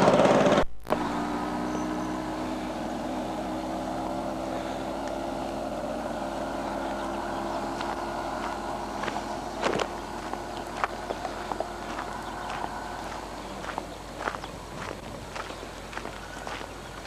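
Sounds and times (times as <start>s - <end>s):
small motor droning: 0.0s - 17.0s.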